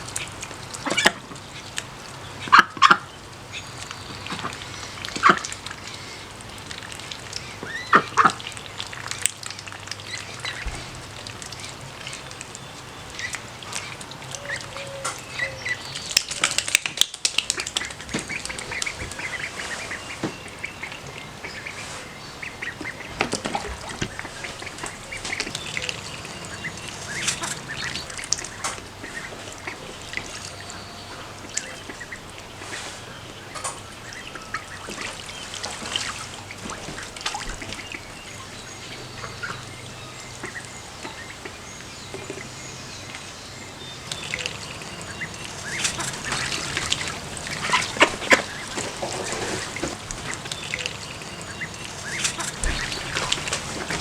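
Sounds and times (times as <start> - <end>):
ducklings peeping: 0.0 - 54.0
ducks quacking: 0.0 - 54.0.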